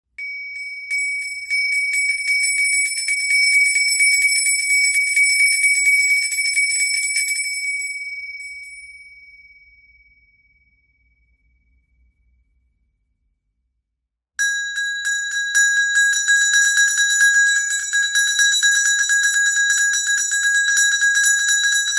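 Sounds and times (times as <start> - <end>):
small bell ringing: 0.2 - 10.6, 14.4 - 21.9.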